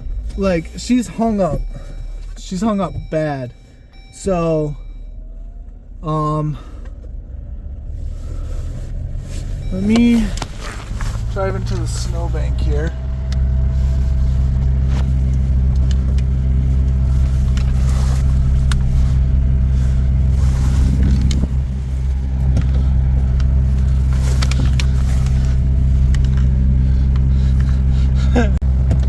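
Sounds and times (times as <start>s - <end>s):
engine running under load: 0.0s - 29.0s.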